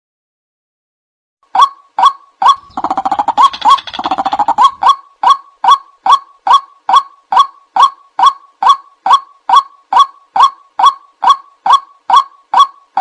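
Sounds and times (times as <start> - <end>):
fast overlapping bird calls: 1.6 - 13.0
waterhen wak call: 2.0 - 13.0.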